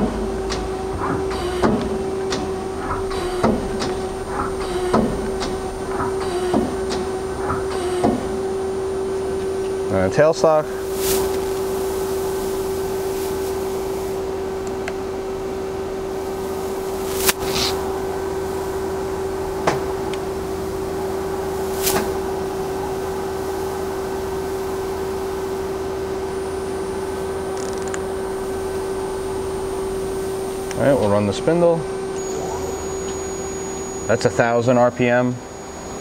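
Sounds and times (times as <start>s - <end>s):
lathe humming: 0.0s - 9.9s, 10.5s - 36.0s.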